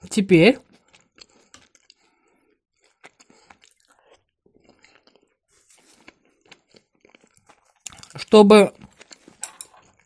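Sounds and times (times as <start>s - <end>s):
person chewing: 0.6s - 10.0s.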